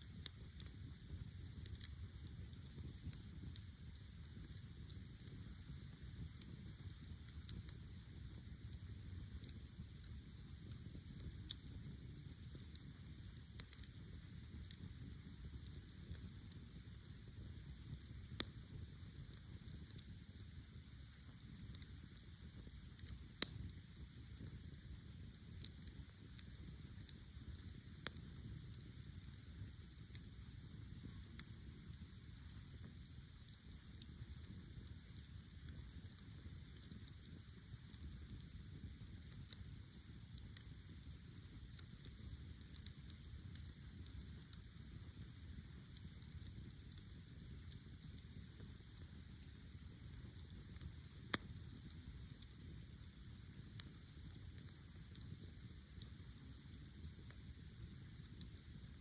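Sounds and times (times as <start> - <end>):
campfire crackling and popping: 0.0 - 59.0
night insects chirring: 0.0 - 59.0.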